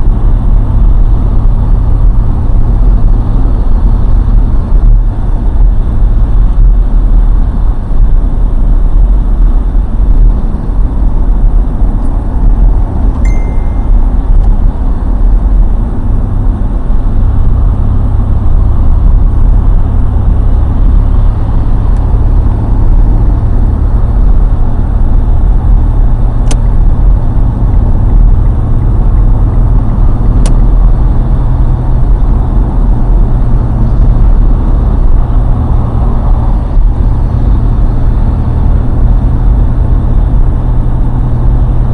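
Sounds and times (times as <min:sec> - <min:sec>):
highway traffic rumble: 0:00.0 - 0:41.9.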